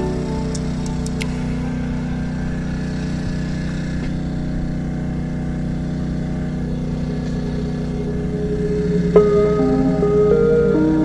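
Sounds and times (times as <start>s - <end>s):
small petrol engine running: 0.0s - 9.2s.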